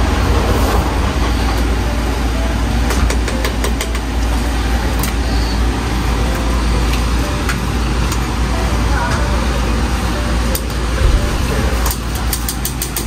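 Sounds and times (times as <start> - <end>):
gas burner rumbling: 0.0 - 13.0.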